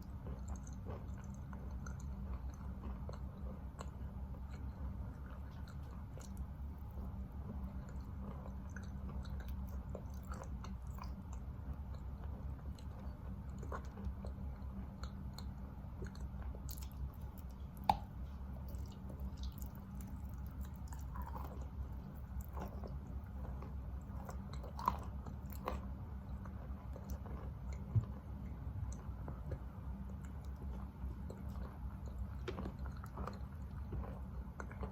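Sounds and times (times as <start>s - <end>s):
person chewing chalk: 0.0s - 34.9s
steady low hum: 0.0s - 34.9s.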